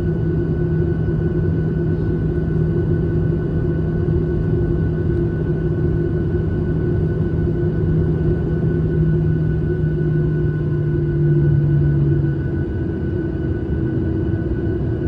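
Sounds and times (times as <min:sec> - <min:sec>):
steady hum tones: 0:00.0 - 0:14.2
airliner cabin engine drone: 0:00.0 - 0:15.0.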